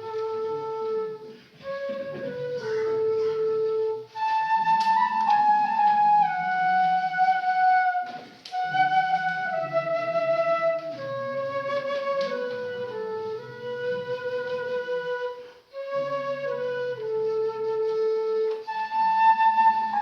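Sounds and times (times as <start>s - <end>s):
bamboo flute playing slow melody: 0.0s - 20.0s.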